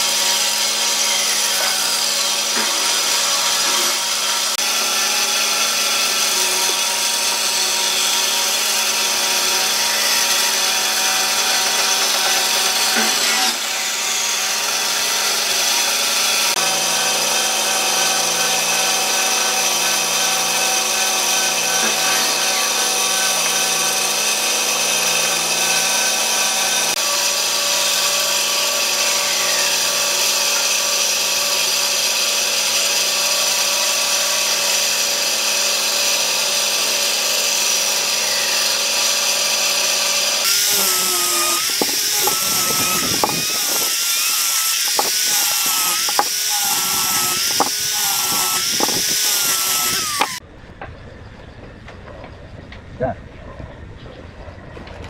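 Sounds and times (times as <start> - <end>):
bandsaw cutting wood: 0.0 - 50.4.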